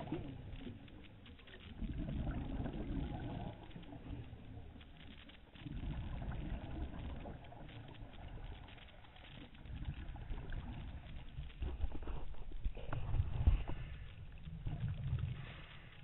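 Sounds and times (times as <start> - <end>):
underwater crackles and clicks: 0.0 - 16.0
underwater rumble: 0.0 - 16.0.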